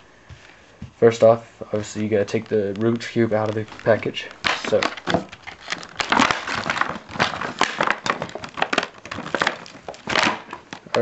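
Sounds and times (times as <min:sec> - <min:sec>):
plastic packaging crinkling: 0:01.2 - 0:11.0.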